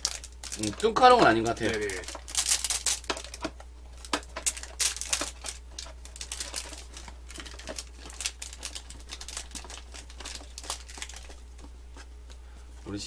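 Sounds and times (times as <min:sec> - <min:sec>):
cardboard packaging handled: 0:00.0 - 0:11.5
plastic wrappers crinkling: 0:00.0 - 0:11.7.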